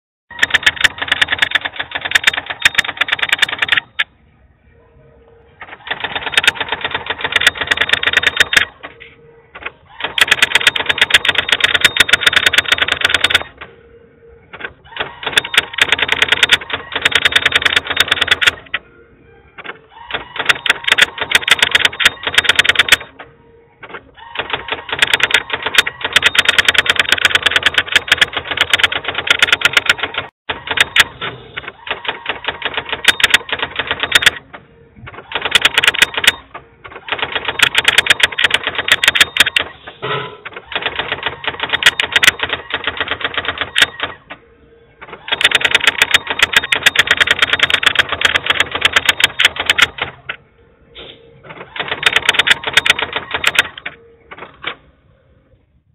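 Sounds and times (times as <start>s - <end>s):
typewriter keystrokes clicking: 0.3s - 4.1s, 5.6s - 8.7s, 9.6s - 13.7s, 14.5s - 18.8s, 19.6s - 23.2s, 23.8s - 44.4s, 45.0s - 50.4s, 51.5s - 54.8s.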